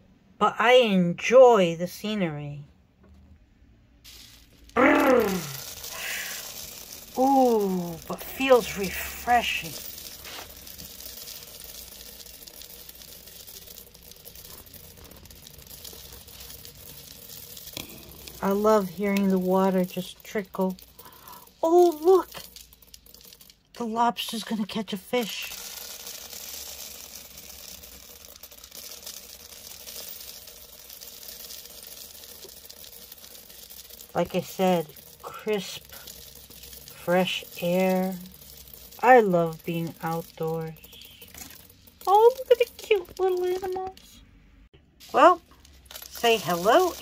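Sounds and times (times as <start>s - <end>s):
faint trickle of water: 4.1s - 44.1s.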